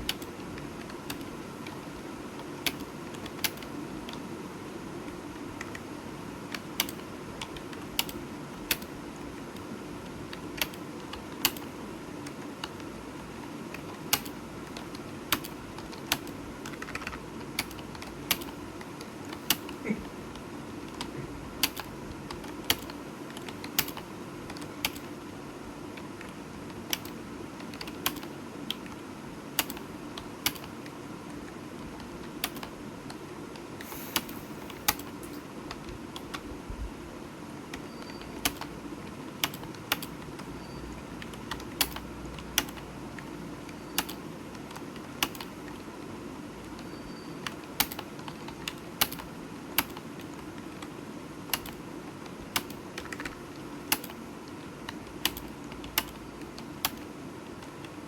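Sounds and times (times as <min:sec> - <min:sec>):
computer keyboard typing: 0:00.0 - 0:04.2, 0:05.0 - 0:36.5, 0:37.7 - 0:58.0.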